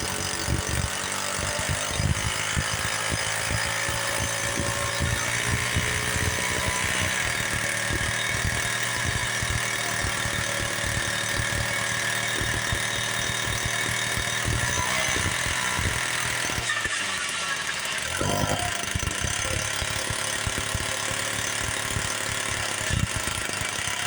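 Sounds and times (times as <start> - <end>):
small two-stroke engine running: 0.0 - 24.0.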